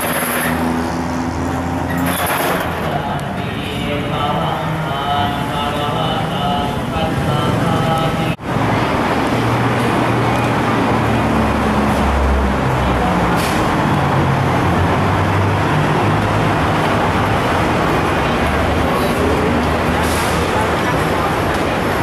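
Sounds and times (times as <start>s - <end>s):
traffic din: 0.0s - 22.0s.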